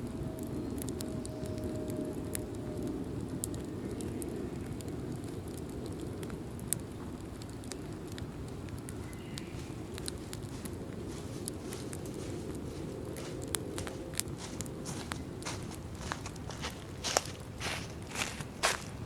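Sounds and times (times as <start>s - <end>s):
leaves crackling in fire: 0.0s - 19.0s
low fire rumble: 0.0s - 19.0s.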